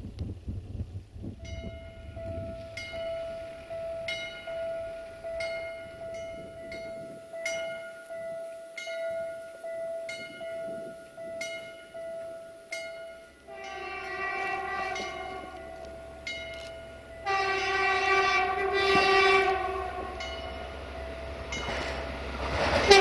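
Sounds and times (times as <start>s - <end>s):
level crossing warning bell: 1.4s - 23.0s
train horn: 1.4s - 23.0s.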